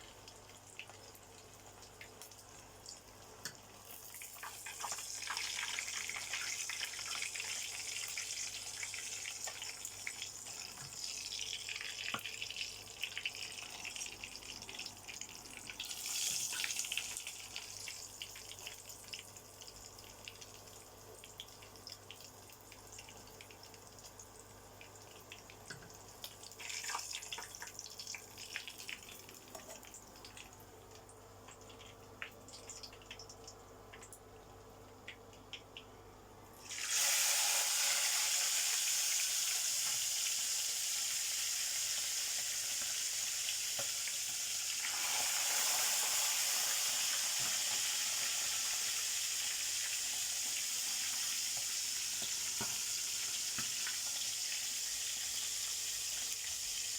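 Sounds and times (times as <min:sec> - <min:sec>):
meat frying in hot oil: 0:00.0 - 0:34.0, 0:36.6 - 0:56.9.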